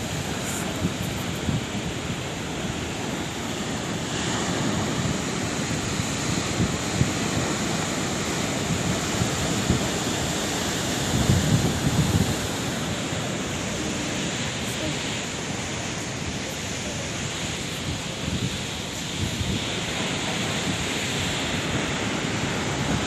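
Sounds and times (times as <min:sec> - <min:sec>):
sea surf washing ashore: 0:00.0 - 0:23.0.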